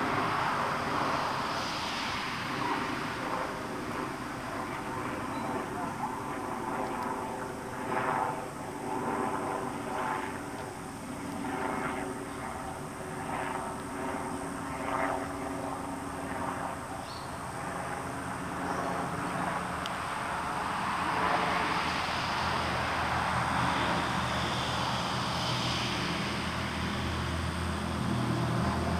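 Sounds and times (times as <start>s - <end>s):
distant engine droning: 0.0s - 28.9s.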